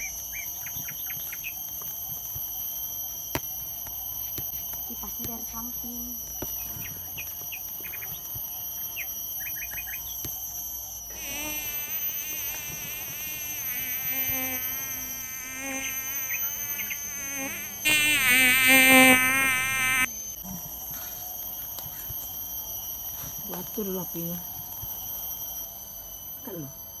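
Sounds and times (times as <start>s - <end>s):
insect buzzing: 0.0s - 27.0s.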